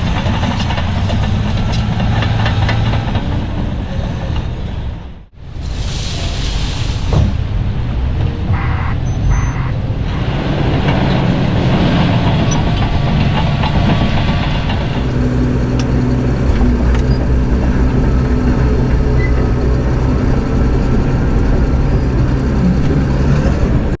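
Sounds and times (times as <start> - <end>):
bulldozer diesel engine under load: 0.0 - 24.0
tracks clanking: 0.0 - 24.0.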